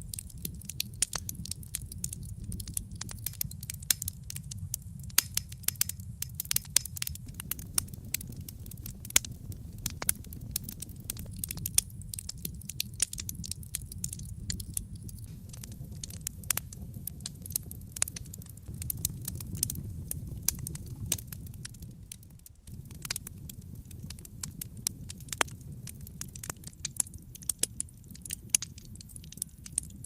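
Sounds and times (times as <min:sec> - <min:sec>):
low steady rumble: 0:00.0 - 0:28.0
wood fire crackling and popping: 0:00.0 - 0:30.0.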